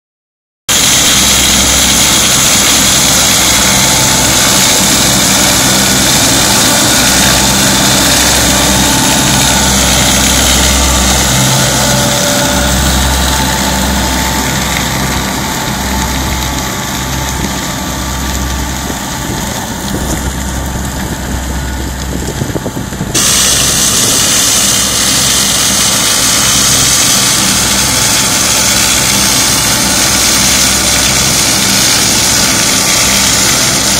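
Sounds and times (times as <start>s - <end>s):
machinery rattle and hiss: 0.7s - 33.9s
tractor engine hum: 0.7s - 33.9s.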